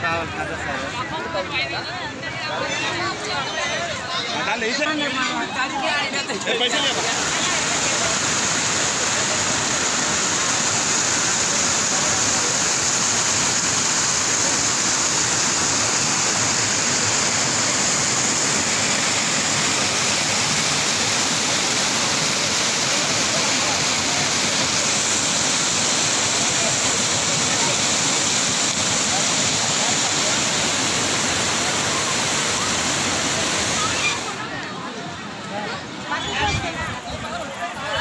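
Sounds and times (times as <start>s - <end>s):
waterfall rushing over rocks: 2.4s - 38.0s.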